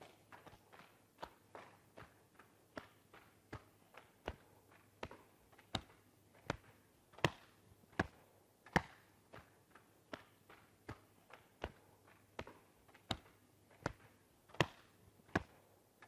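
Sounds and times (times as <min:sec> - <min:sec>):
hands slapping body: 0:00.0 - 0:15.6.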